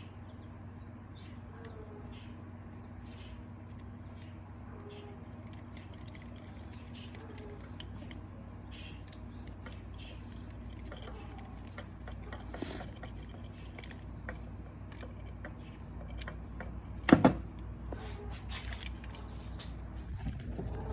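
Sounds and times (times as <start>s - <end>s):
low steady hum: 0.0s - 20.9s
small clicks and rattles: 1.6s - 20.9s.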